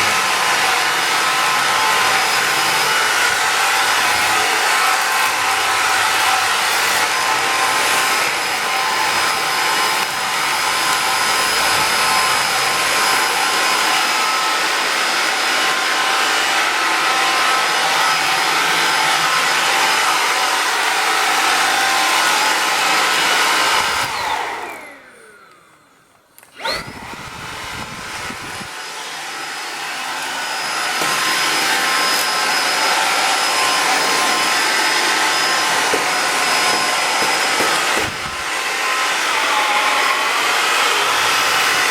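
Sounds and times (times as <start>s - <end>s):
cordless vacuum cleaner whining: 0.0s - 41.9s.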